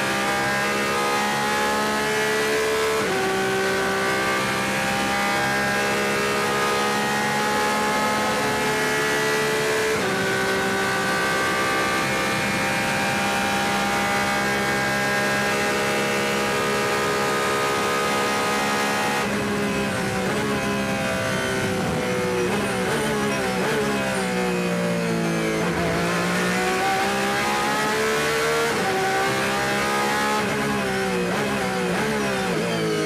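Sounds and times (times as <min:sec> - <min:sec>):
racing car engine at speed: 0:00.0 - 0:33.0.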